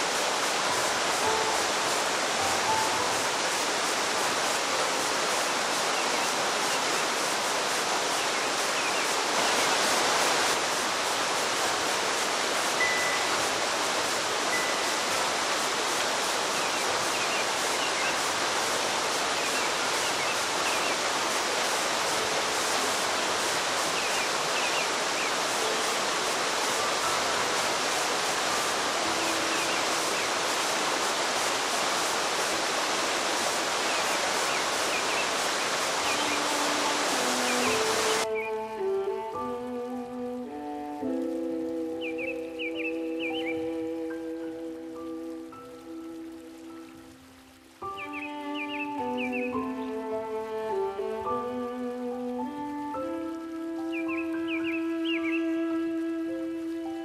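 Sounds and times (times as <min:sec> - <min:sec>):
river rapids rushing: 0:00.0 - 0:57.0.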